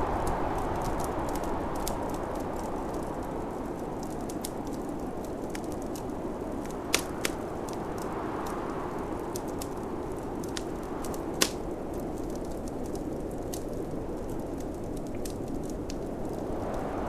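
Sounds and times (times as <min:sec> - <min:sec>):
snowstorm wind rushing: 0:00.0 - 0:17.0
wood fire crackling and popping: 0:00.0 - 0:17.0.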